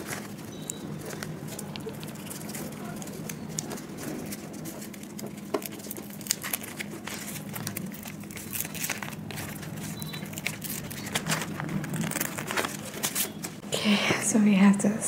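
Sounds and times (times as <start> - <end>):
paper crinkling and rustling: 0.0 - 13.6.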